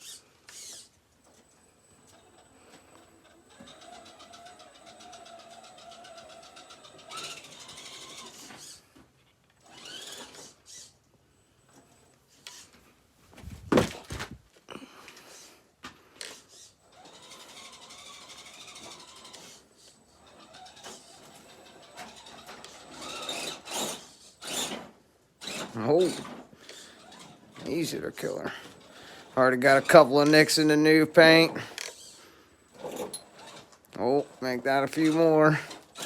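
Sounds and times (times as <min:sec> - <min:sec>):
electric motor whining: 0:00.0 - 0:00.9, 0:01.8 - 0:08.8, 0:09.6 - 0:10.9, 0:16.2 - 0:36.0.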